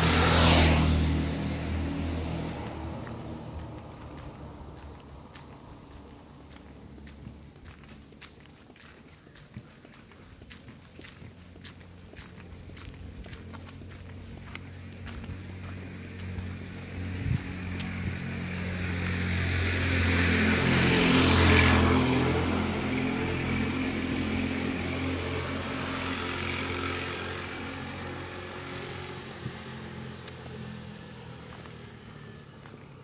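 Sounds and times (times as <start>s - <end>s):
vehicle passing by: 0.0s - 33.0s.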